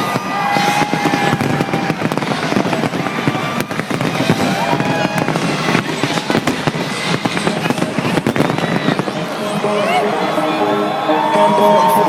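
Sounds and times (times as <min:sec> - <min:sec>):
fireworks bangs and crackles: 0:00.0 - 0:11.8.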